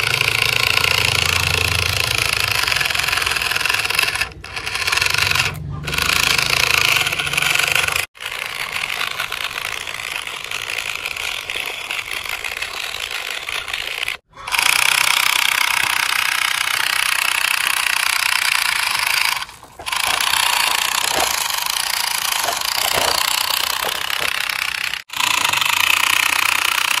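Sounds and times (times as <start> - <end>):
toy motor and gearbox buzzing: 0.0 - 27.0.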